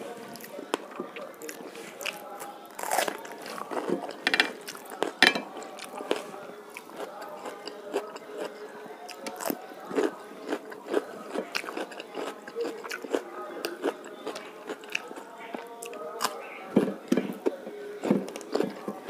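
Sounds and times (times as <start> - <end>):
wet chewing: 0.4 - 19.0.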